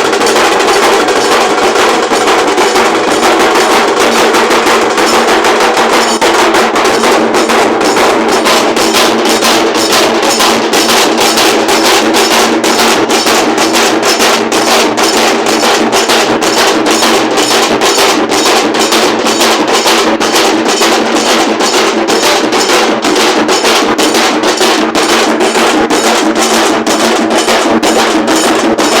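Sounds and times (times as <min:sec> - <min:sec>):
dhol drums playing: 0:00.0 - 0:29.0.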